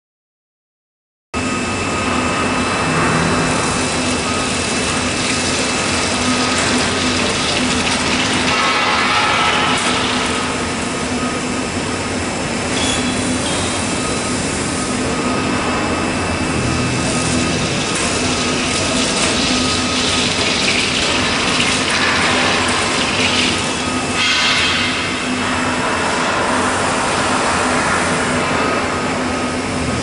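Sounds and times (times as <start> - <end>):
boring mill machining metal: 1.6 - 29.9.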